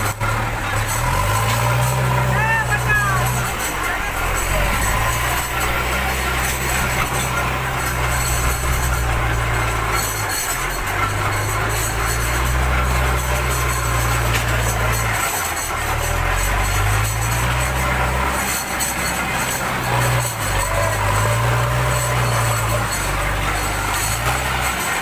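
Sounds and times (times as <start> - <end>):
backhoe diesel engine under load: 0.0 - 25.0.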